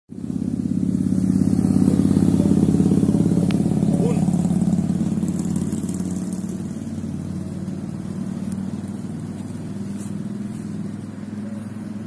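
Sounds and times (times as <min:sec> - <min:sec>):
vehicle engine running: 0:00.1 - 0:12.0.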